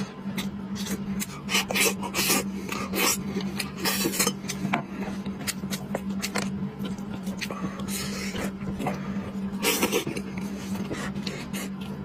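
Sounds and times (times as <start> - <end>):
food being chewed: 0.0 - 12.0
low hum: 0.0 - 12.0.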